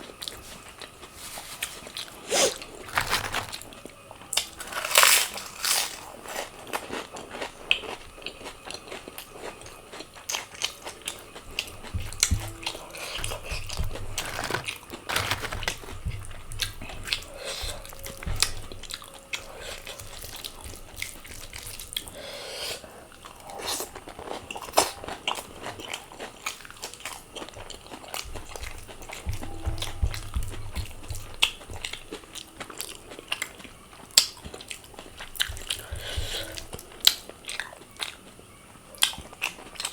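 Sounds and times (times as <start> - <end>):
chewing and crunching: 0.0 - 22.2, 22.8 - 39.9.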